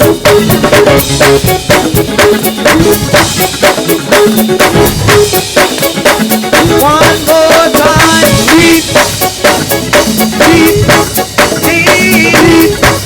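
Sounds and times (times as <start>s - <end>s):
gospel band instrumental groove: 0.0s - 13.0s
sharp drum kit hits: 0.0s - 13.0s.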